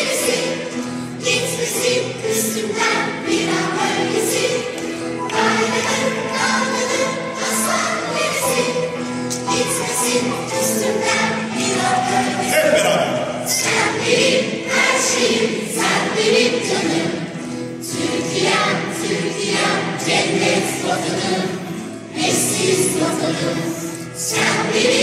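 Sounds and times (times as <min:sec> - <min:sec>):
children's choir singing: 0:00.0 - 0:25.0
grand piano: 0:00.0 - 0:25.0.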